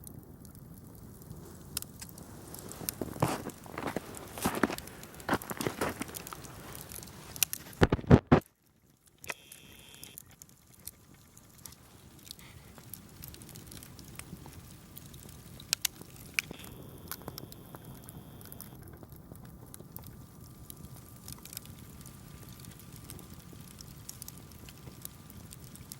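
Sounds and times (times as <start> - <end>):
campfire crackling: 0.0 - 25.9.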